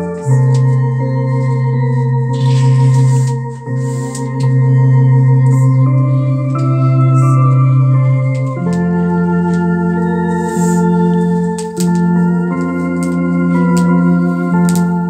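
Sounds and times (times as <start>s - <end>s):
electronic organ playing chords: 0.0s - 15.0s.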